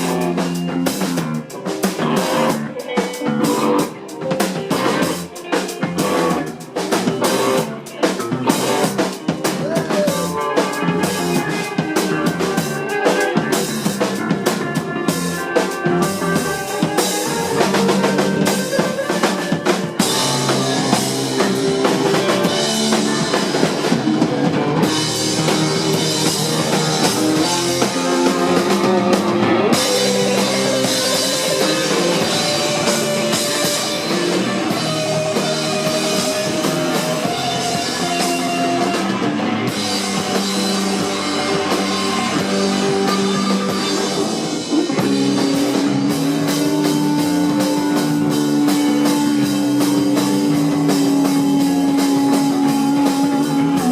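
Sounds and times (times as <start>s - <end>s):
loud continuous drumming: 0.0s - 53.9s
rock band playing live: 0.0s - 53.9s.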